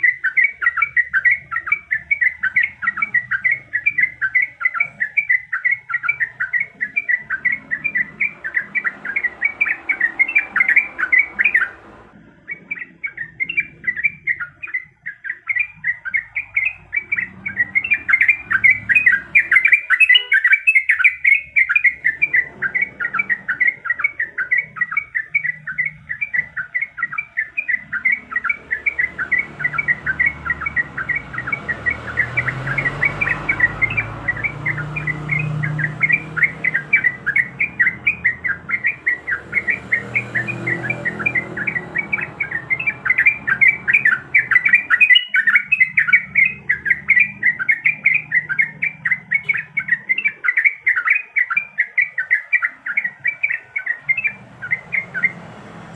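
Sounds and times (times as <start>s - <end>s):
bird calling in rapid rolling notes: 0.0s - 55.9s.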